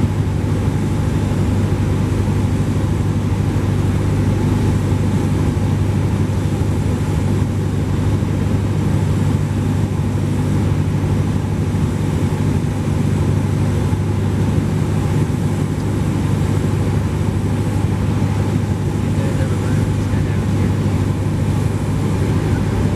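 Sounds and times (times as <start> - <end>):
aircraft engine and propeller droning: 0.0 - 22.9.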